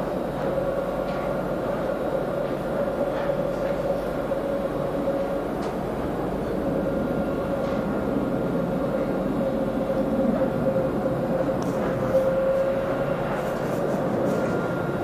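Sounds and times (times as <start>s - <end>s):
steady hum: 0.0s - 15.0s
tram running rumble: 0.0s - 15.0s.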